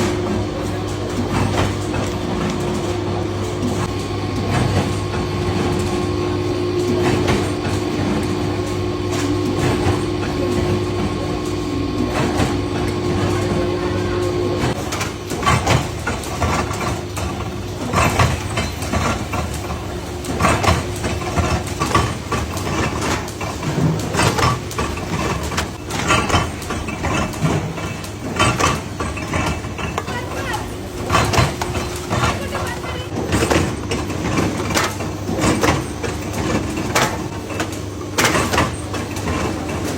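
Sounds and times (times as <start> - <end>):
factory machinery humming: 0.0 - 39.9
machinery clattering and knocking: 0.0 - 39.9.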